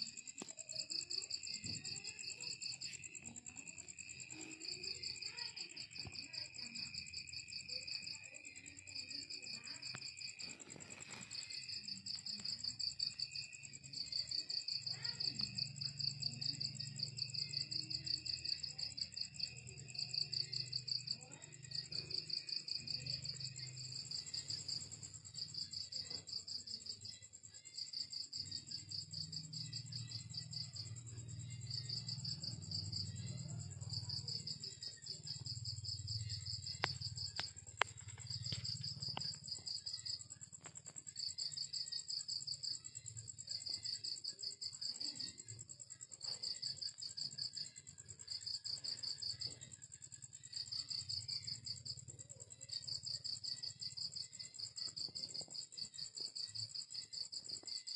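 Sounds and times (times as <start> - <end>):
crickets chirping: 0.0 - 57.9.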